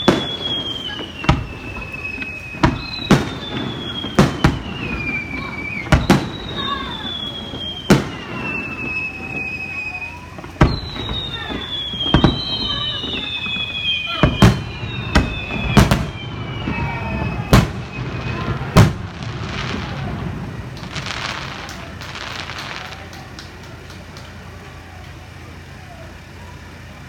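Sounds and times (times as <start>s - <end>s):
fireworks bursting bangs: 0.0s - 26.3s
descending firework whistles: 0.0s - 27.0s.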